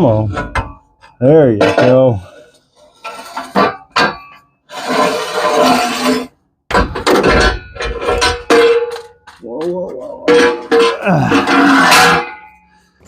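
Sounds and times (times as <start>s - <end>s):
metal parts clanking: 0.0s - 13.0s.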